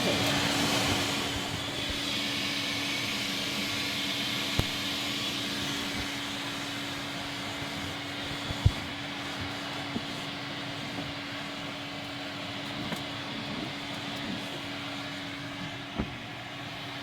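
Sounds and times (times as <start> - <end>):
vacuum cleaner humming: 0.0 - 17.0.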